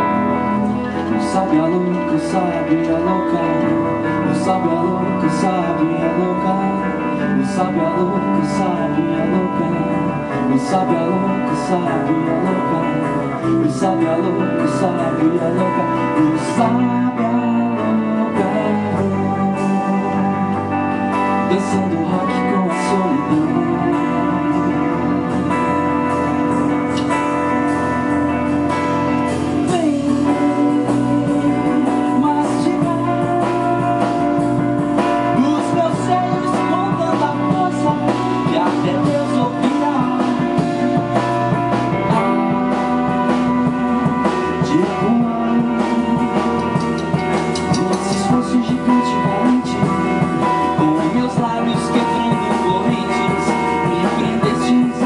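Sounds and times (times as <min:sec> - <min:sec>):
band playing instrumental music: 0:00.0 - 0:55.0
bass guitar: 0:00.0 - 0:55.0
steady drum beat: 0:00.0 - 0:55.0.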